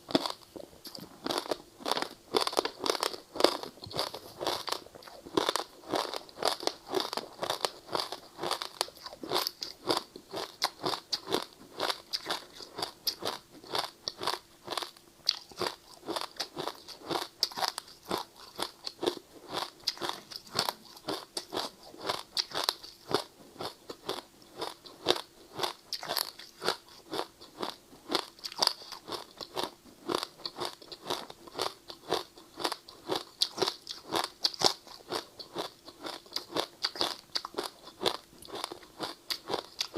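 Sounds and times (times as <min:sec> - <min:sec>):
ice crunching while chewed: 0:00.1 - 0:39.9.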